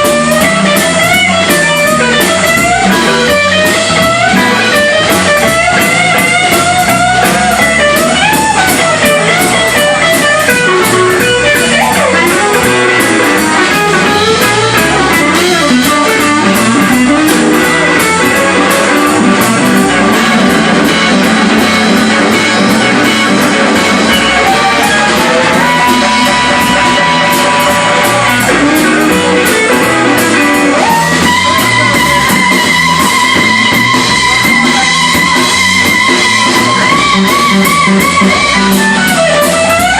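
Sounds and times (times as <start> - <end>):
blues-rock band playing: 0.0 - 39.9
electric guitar lead bending notes: 0.0 - 39.9.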